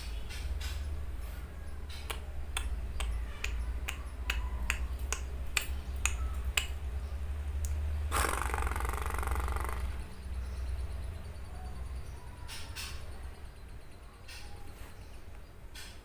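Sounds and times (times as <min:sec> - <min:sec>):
lovebird chirping and chattering: 0:00.0 - 0:16.0.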